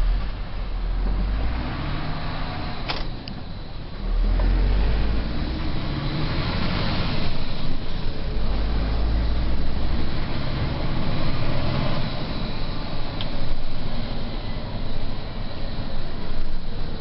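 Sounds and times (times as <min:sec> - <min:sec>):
diesel truck engine rumble: 0:00.0 - 0:17.0
road noise: 0:00.0 - 0:17.0.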